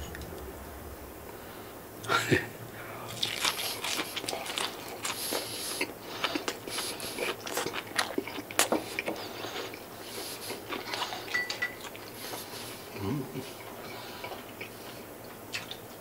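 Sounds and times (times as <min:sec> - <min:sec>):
person chewing crunchy food: 0:03.0 - 0:15.9.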